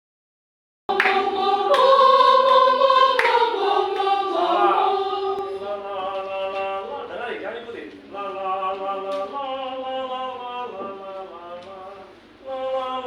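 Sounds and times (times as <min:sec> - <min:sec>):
choir singing a cappella: 0:00.9 - 0:07.2, 0:08.1 - 0:13.0.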